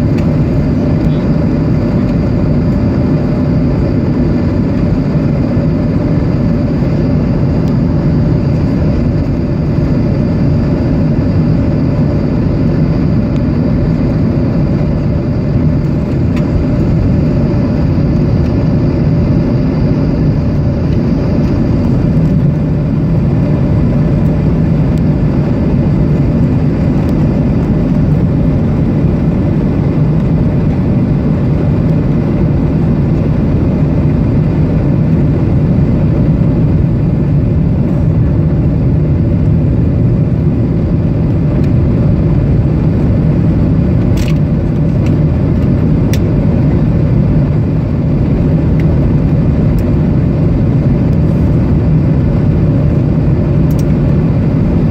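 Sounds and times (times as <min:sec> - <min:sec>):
airplane cabin engine rumble: 0:00.0 - 0:54.9
faint high whine: 0:00.0 - 0:54.9.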